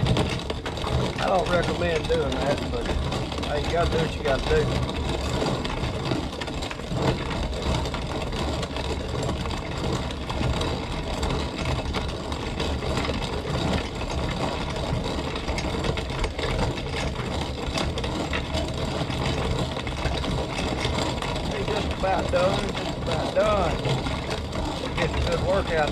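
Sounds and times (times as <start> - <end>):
hand-cranked grinder crunching corn: 0.0 - 25.9.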